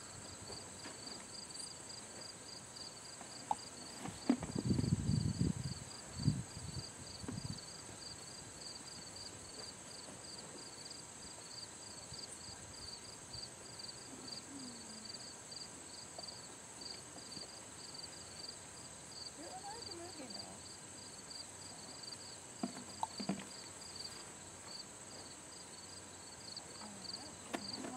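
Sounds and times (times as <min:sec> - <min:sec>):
continuous high buzz: 0:00.0 - 0:27.9
insects chirping: 0:00.0 - 0:27.9.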